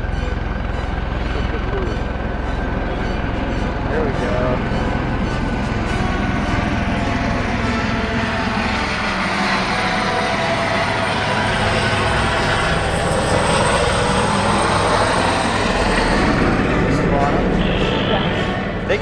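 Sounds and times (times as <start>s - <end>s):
helicopter rotor and turbine: 0.0s - 19.0s.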